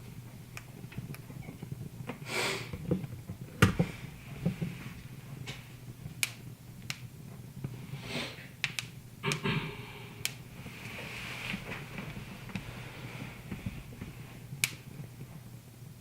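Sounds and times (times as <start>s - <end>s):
soft fire hiss: 0.0s - 16.0s
wood fire crackling and popping: 0.0s - 16.0s.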